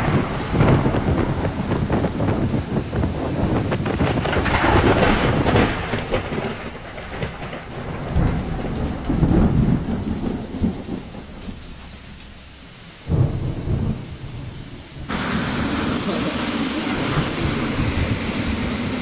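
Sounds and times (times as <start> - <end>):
heavy rain: 0.0 - 19.0
storm wind buffeting microphone: 0.0 - 19.0.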